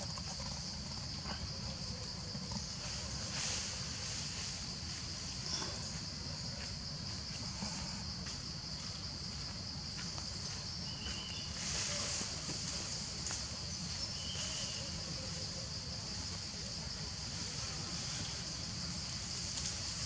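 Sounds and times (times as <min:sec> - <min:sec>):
faint ticks and rustles: 0:00.0 - 0:14.7, 0:17.2 - 0:20.0
insect chorus: 0:00.0 - 0:20.0.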